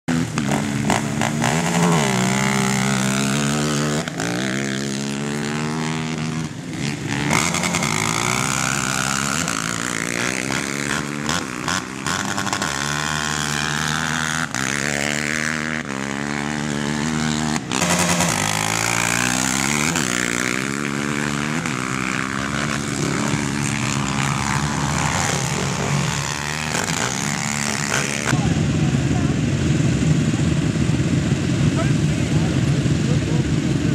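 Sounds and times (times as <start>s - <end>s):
quad bike engines revving: 0.0s - 33.9s.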